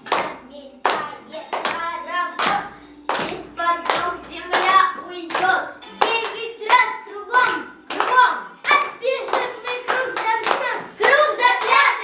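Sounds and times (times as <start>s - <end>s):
children singing: 0.0s - 12.0s
rhythmic hand clapping: 0.0s - 12.0s.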